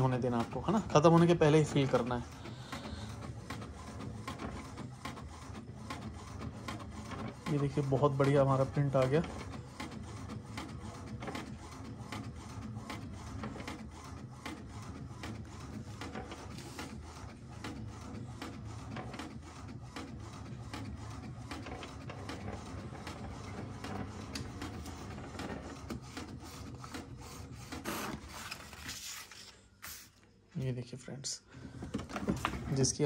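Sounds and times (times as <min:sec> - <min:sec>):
printer carriage moving back and forth: 0:00.0 - 0:30.0, 0:31.6 - 0:33.0
paper feeding out: 0:00.0 - 0:30.2.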